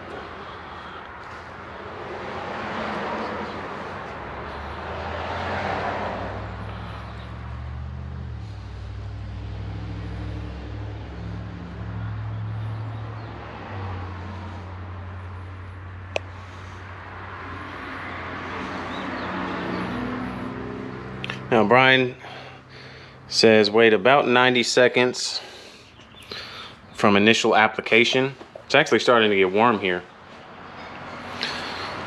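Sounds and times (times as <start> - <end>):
road traffic hum: 0.0 - 32.0.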